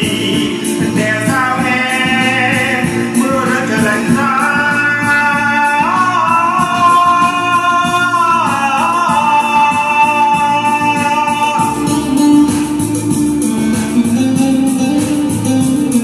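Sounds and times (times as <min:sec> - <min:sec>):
backing accompaniment: 0:00.0 - 0:16.0.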